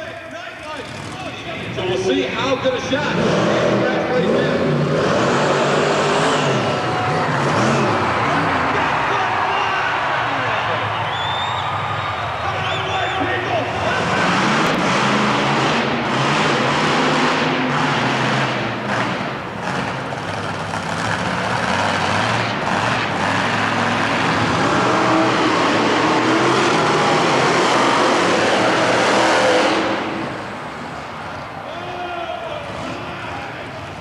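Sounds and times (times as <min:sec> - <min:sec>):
monster truck engines revving: 0:00.0 - 0:34.0.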